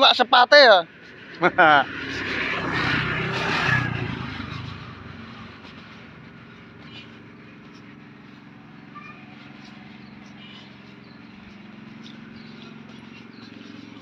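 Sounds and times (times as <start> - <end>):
motor scooter passing: 0.0 - 14.0.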